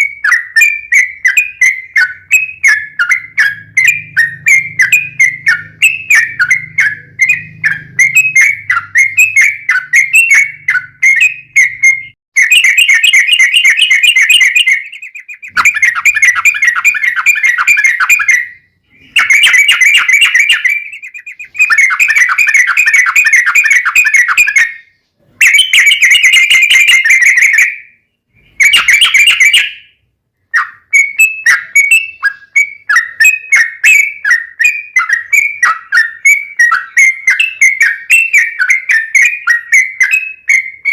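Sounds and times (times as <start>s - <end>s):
bird song with trills: 0.0s - 40.9s.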